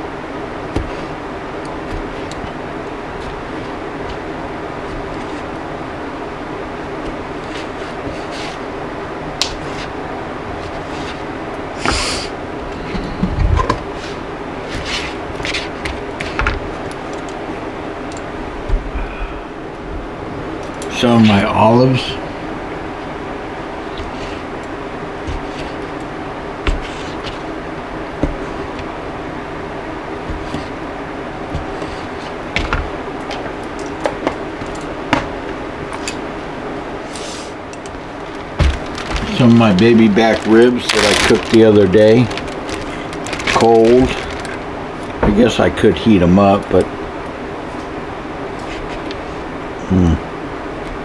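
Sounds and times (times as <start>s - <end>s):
utensils and food clattering: 0.0s - 18.9s, 23.0s - 47.0s
steady background hum: 0.0s - 51.0s.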